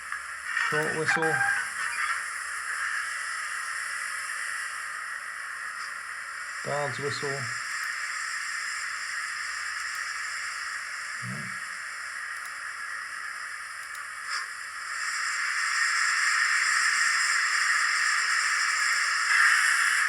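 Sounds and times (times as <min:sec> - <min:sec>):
steam hiss from small speaker: 0:00.0 - 0:20.0.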